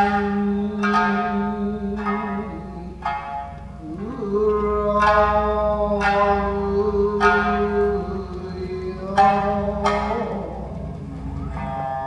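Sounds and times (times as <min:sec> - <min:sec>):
person singing long note: 0:00.0 - 0:12.0
shamisen plucks: 0:00.0 - 0:12.0.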